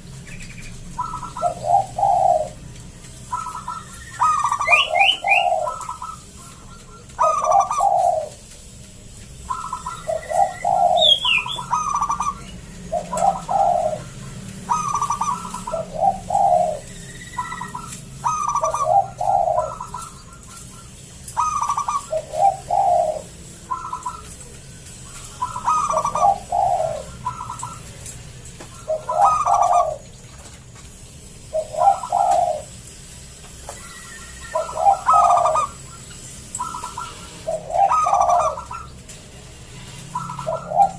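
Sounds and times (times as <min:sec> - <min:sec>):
small birds chirping: 0:00.0 - 0:40.9
dove cooing: 0:00.6 - 0:08.5, 0:09.4 - 0:30.3, 0:31.4 - 0:32.8, 0:33.7 - 0:39.0, 0:39.9 - 0:40.9.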